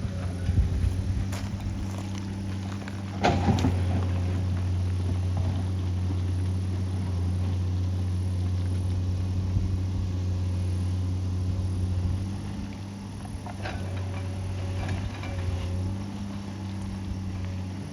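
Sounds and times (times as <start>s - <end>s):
excavator diesel engine running: 0.0s - 17.9s.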